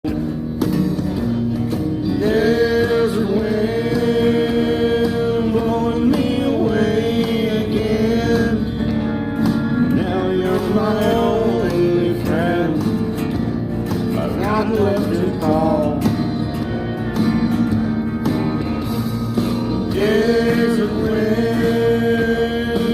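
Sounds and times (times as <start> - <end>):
slow country song: 0.1 - 22.9.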